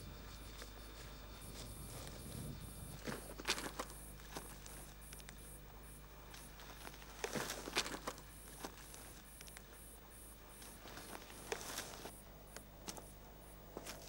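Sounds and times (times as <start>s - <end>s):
crunches on stony ground: 0.2s - 14.0s.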